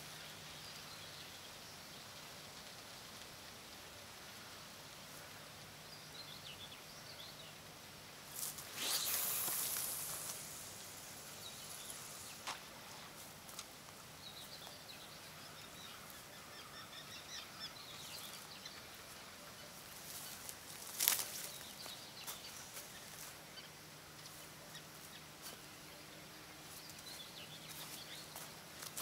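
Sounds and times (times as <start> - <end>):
small birds chirping: 5.0 - 29.0.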